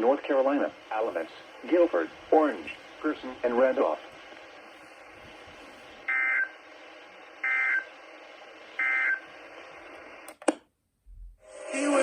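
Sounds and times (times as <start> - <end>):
faint radio hiss: 0.0 - 10.3, 11.4 - 12.0.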